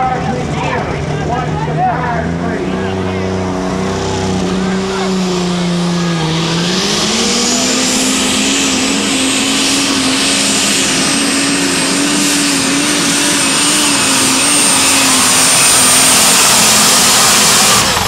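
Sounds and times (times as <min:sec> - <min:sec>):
tractor engine at full power: 0:00.0 - 0:18.0.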